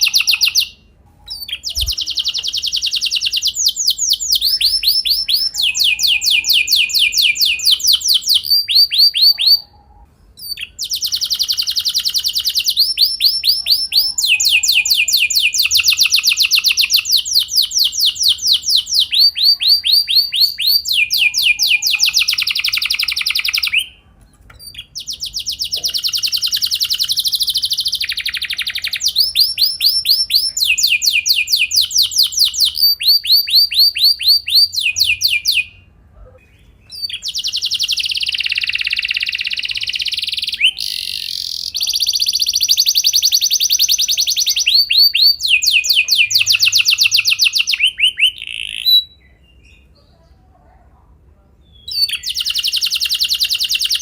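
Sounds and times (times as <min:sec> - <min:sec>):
canary singing rolling trills: 0:00.0 - 0:50.6, 0:51.6 - 0:54.0.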